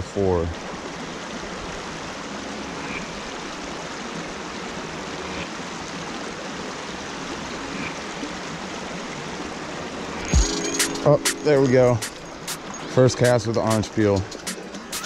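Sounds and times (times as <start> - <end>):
creek water rushing over stones: 0.0 - 15.0.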